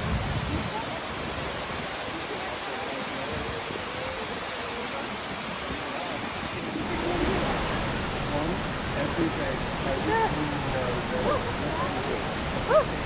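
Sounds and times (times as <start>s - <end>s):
waterfall rushing: 0.0s - 13.0s
faint voices of people: 0.6s - 13.0s.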